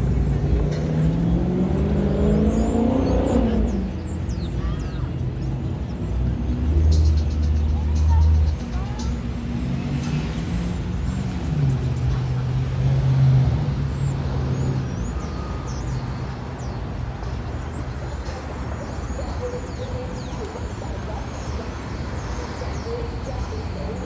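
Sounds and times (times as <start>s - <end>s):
vehicle engine low hum: 0.0s - 4.5s, 5.2s - 24.0s.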